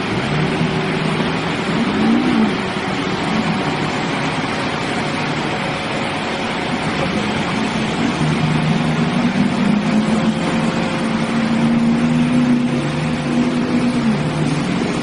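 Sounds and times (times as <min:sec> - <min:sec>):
continuous rushing water: 0:00.0 - 0:15.0
pickup truck engine drone: 0:00.0 - 0:15.0.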